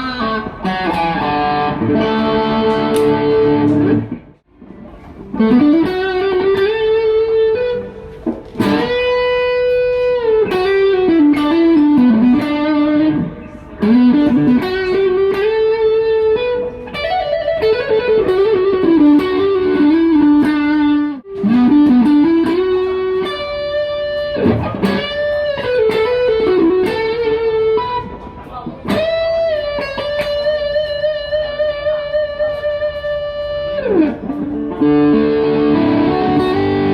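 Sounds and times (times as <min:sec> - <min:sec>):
guitar melody with bends: 0:00.0 - 0:36.9.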